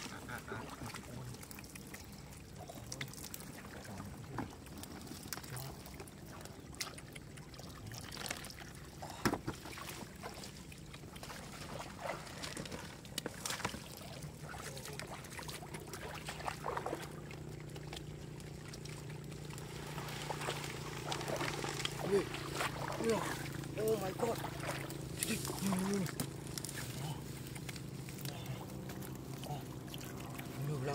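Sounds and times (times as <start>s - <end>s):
low steady hum: 0.0s - 30.9s
water trickling and sloshing: 0.0s - 30.9s.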